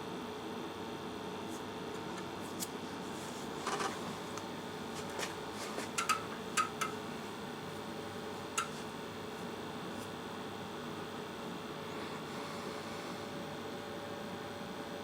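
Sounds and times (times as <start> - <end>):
oscilloscope fan hum: 0.0 - 15.0.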